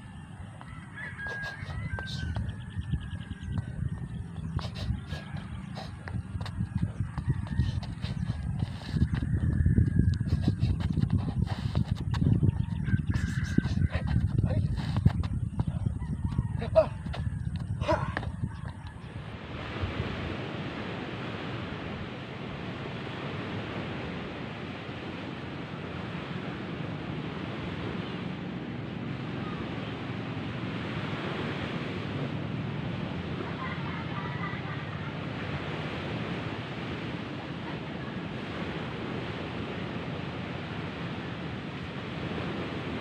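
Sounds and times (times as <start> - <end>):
surf at the shore: 0.0 - 9.5, 10.1 - 15.7, 16.3 - 43.0
wind: 0.0 - 43.0.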